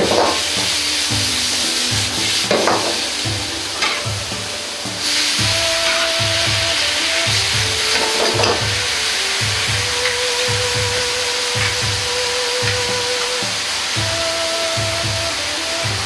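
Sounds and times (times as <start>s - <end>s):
metal ladle scraping a pan: 0.0s - 14.0s
food sizzling in a wok: 0.0s - 16.0s.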